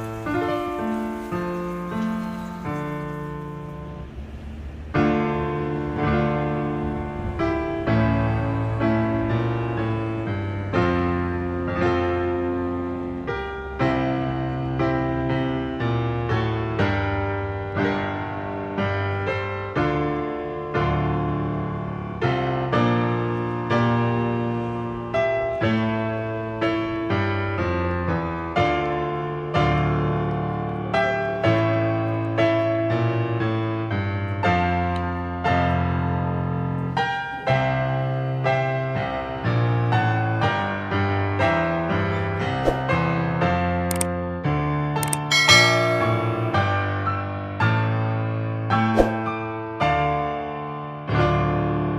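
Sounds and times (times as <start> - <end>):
piano music: 0.0 - 51.9.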